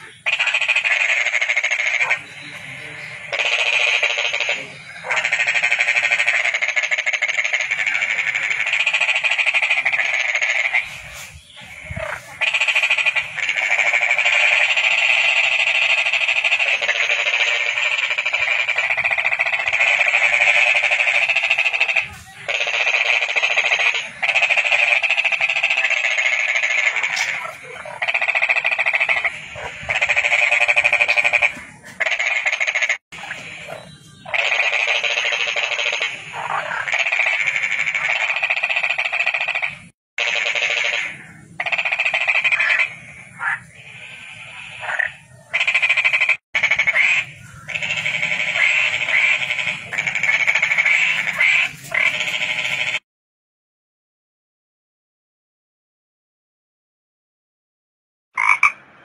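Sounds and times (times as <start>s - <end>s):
toads trilling: 0.0s - 53.0s, 58.4s - 58.8s.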